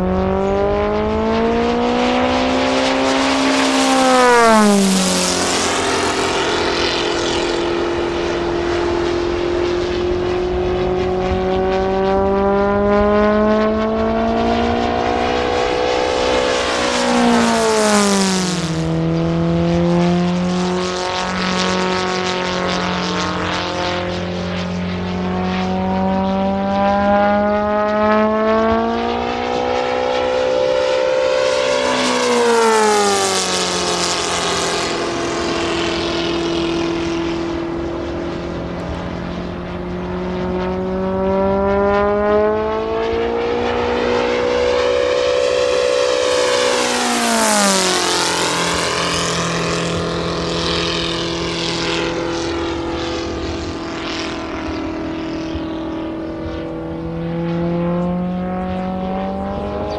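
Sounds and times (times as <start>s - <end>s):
model aircraft engine flying past: 0.0s - 59.9s.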